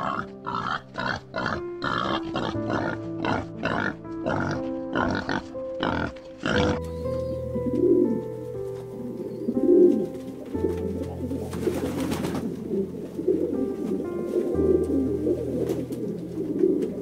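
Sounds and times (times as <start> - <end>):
low bird calls: 0.0 - 17.0
soft music with held tones: 0.0 - 17.0.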